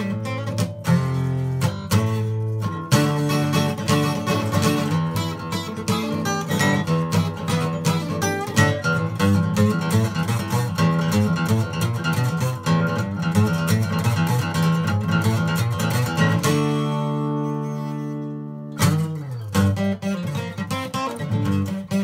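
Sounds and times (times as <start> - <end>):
acoustic guitar playing riff: 0.0 - 22.0.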